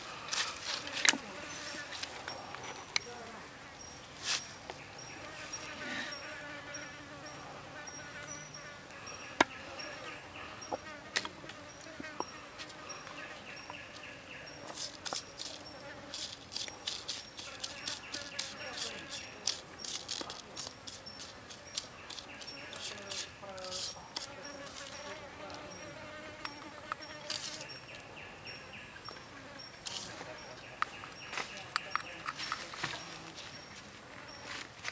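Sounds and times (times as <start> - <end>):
fly buzzing: 0.0 - 3.6, 4.2 - 32.2
insects chirring: 0.0 - 34.9.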